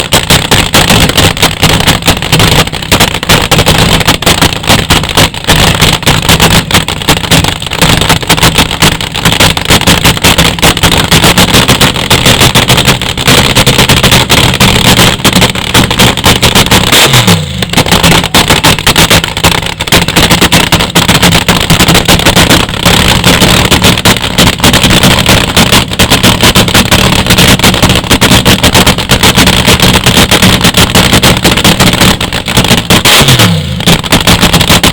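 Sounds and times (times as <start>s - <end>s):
drag-race car engine idling: 0.0s - 34.9s.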